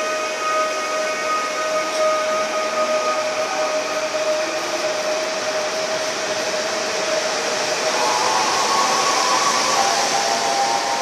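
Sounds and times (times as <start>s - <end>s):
train wheel and running noise: 0.0s - 11.0s
train whining tone: 0.0s - 11.0s.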